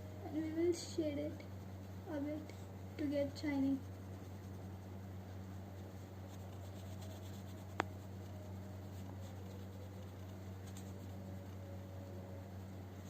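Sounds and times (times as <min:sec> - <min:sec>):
steady low hum: 0:00.0 - 0:13.0
paintbrush strokes rubbing: 0:00.4 - 0:13.0.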